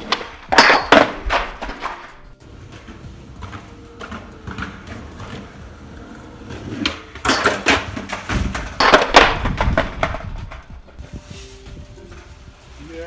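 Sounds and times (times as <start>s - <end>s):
skateboard clattering on concrete: 0.0s - 11.0s.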